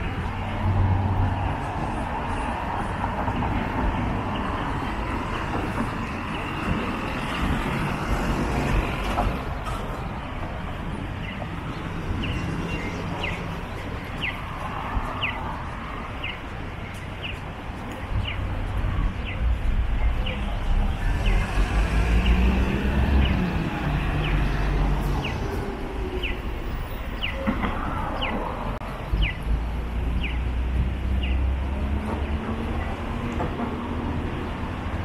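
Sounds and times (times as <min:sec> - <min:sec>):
traffic noise: 0:00.0 - 0:35.0.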